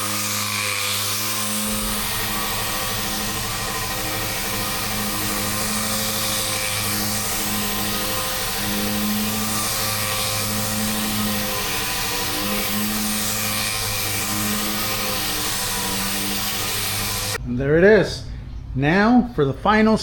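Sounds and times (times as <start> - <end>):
orbital sander whirring: 0.0 - 17.4.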